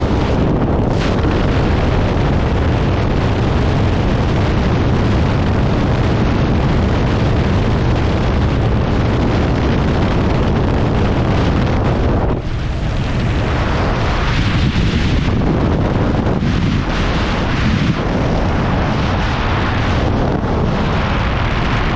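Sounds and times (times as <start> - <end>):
heavy wind buffeting microphone: 0.0 - 21.9.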